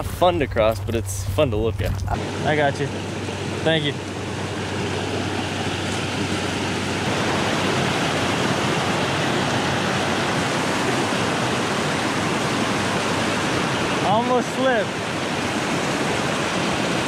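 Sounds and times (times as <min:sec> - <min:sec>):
water rushing over rocks: 0:01.8 - 0:17.0.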